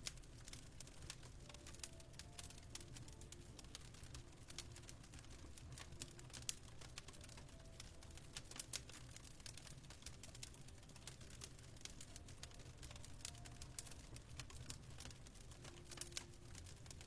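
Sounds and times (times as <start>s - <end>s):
faint fireplace crackling: 0.0s - 17.0s.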